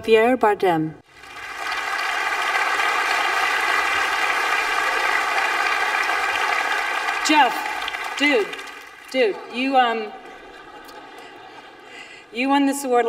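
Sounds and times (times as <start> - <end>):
audience applauding: 1.1 - 12.2.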